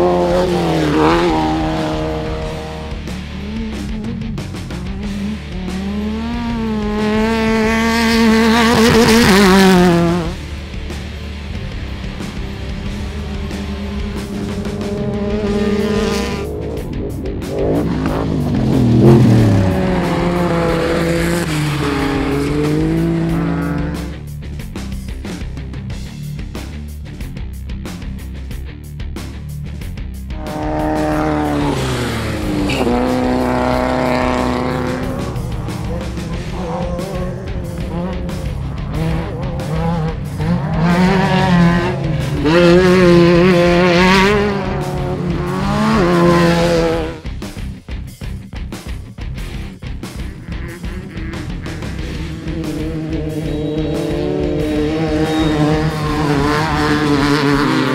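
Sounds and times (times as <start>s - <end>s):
background music: 0.0s - 57.9s
buggy engine revving: 0.0s - 57.9s.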